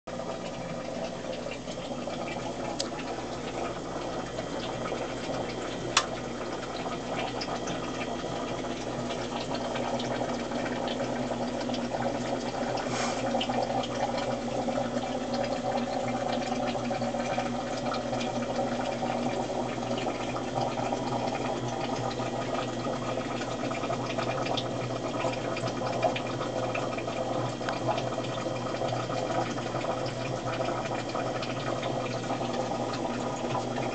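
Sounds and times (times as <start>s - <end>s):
aquarium filter bubbling: 0.1s - 33.9s.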